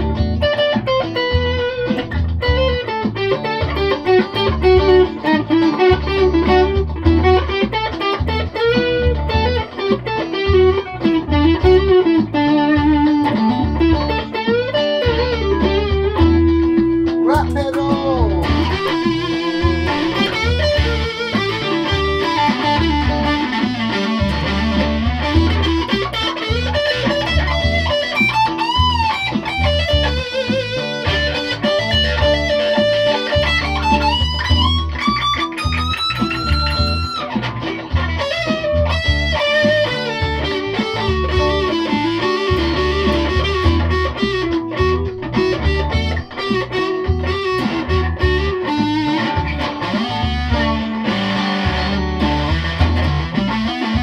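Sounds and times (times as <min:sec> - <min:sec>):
electric guitar lead line: 0:00.0 - 0:54.0.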